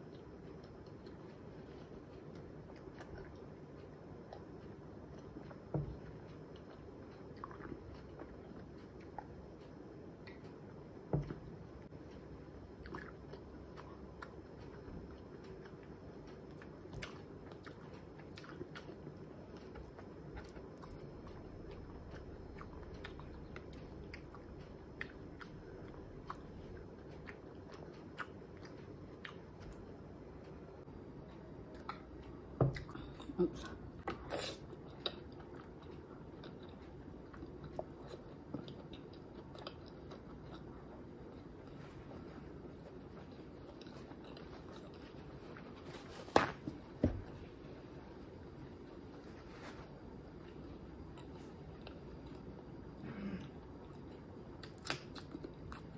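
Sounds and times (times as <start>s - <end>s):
person chewing and swallowing: 0.0s - 30.5s, 31.2s - 45.9s.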